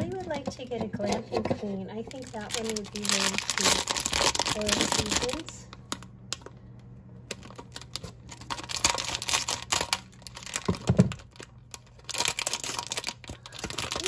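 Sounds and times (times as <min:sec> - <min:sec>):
foil packaging crinkling: 0:00.0 - 0:06.5, 0:07.3 - 0:14.0.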